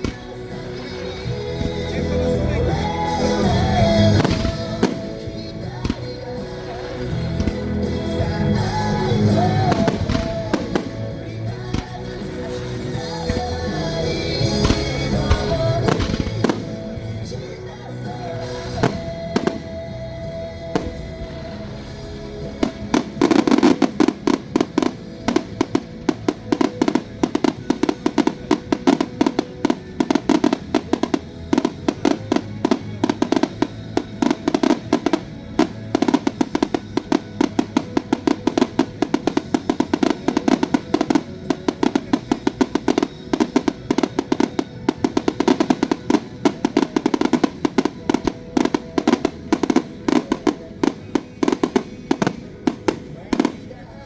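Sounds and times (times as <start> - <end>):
fireworks bursts: 0.0 - 54.0
music from loudspeakers: 0.0 - 54.0.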